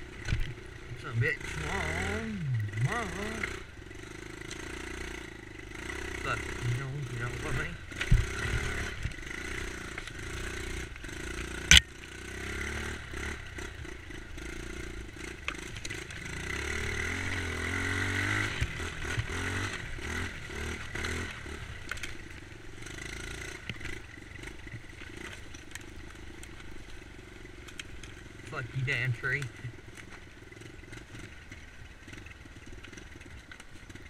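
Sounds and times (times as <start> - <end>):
dirt bike engine: 0.0 - 34.0.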